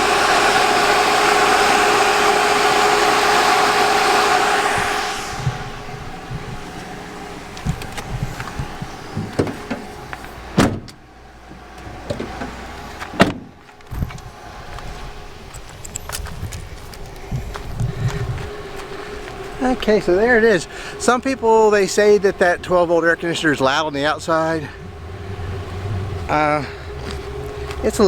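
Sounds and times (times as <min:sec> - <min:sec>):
air conditioner fan rushing: 0:00.0 - 0:28.0.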